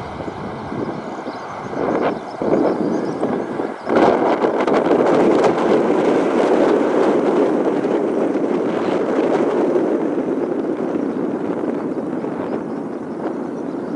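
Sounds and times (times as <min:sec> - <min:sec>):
jet engine rumble: 0:00.0 - 0:13.9.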